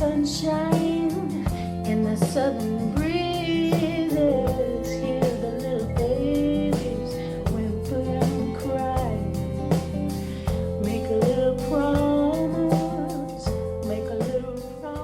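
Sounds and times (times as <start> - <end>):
country blues song with guitar: 0.0 - 15.0.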